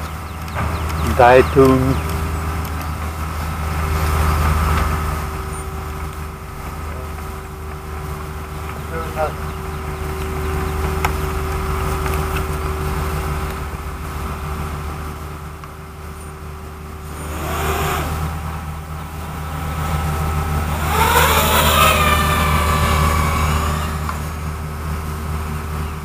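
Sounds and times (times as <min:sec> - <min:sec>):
quadcopter motors whining: 0:00.0 - 0:13.4, 0:16.9 - 0:25.8
steady low hum: 0:00.0 - 0:26.0.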